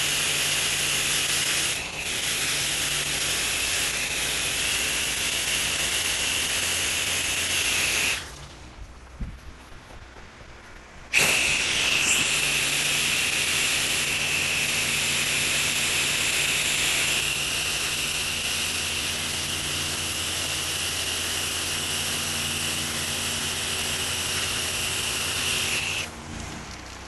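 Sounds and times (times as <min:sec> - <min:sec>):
spray wand hissing: 0:00.0 - 0:08.3, 0:11.1 - 0:26.1
pump hum: 0:00.0 - 0:08.7, 0:11.1 - 0:27.0.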